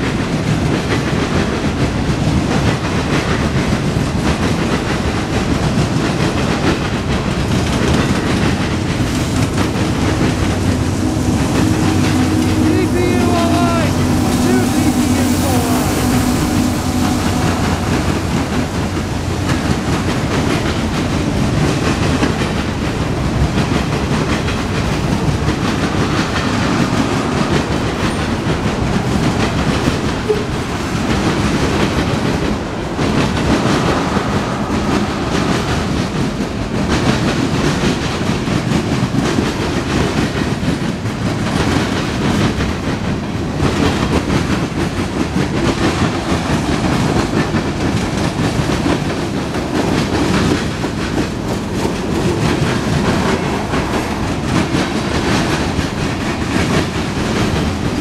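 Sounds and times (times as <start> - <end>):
wheels clacking over rail joints: 0.0 - 12.7, 15.0 - 58.0
freight train cars rolling: 0.0 - 58.0.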